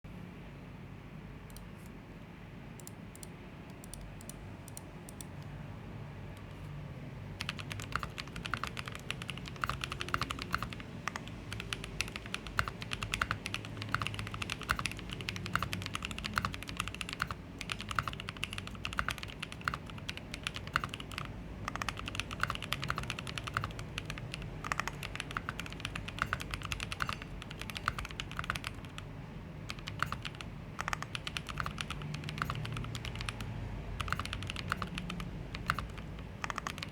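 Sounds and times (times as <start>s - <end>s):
mechanical keyboard typing: 2.8s - 5.5s, 7.4s - 36.9s.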